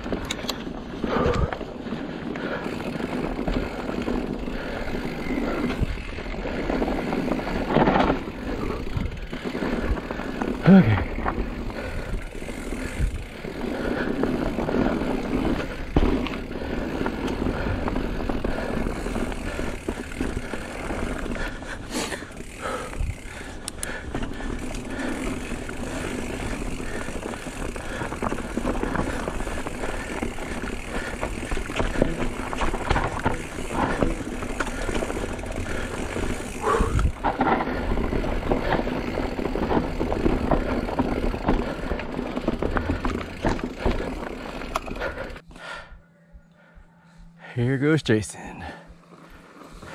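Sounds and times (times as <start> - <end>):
bike rattling: 0.0 - 49.9
bike tyres rolling on dirt: 0.0 - 49.9.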